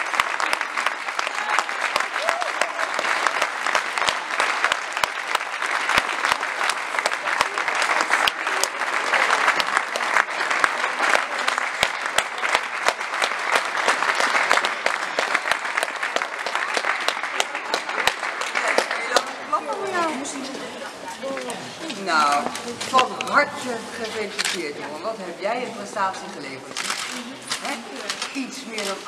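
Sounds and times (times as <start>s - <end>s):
people applauding: 0.0s - 23.4s.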